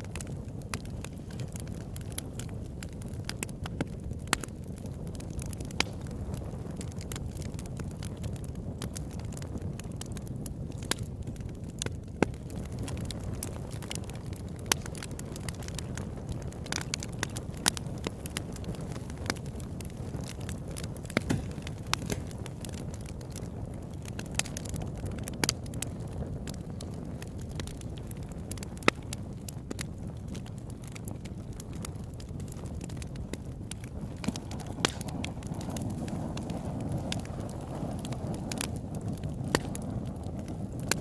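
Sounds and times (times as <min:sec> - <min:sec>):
fire rumbling: 0:00.0 - 0:41.0
wood crackling and popping: 0:00.0 - 0:41.0.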